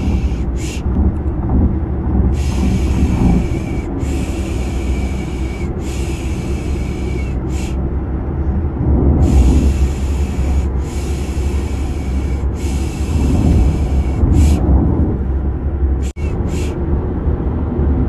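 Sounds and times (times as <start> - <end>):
low car ride rumble: 0.0 - 18.0.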